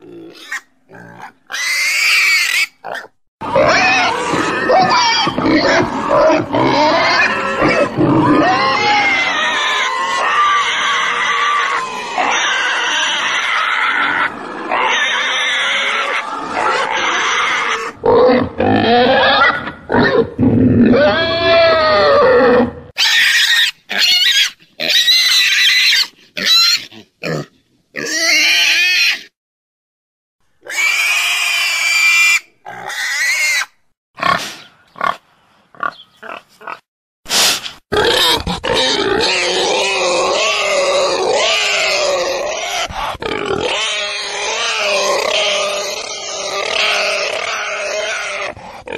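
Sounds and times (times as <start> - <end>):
pig calls: 0.0 - 29.3, 35.8 - 36.9, 37.9 - 48.9.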